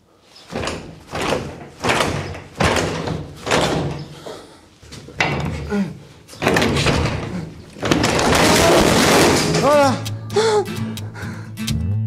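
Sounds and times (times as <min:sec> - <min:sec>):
roll-up door banging and rattling: 0:00.5 - 0:10.2.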